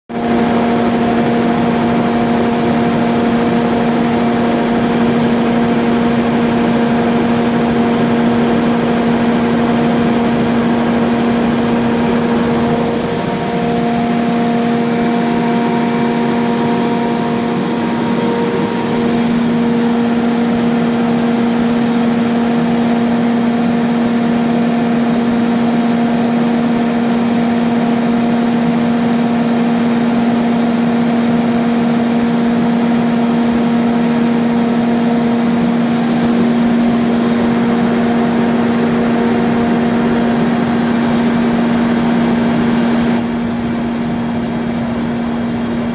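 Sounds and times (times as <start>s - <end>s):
diesel generator engine drone: 0.1s - 45.9s.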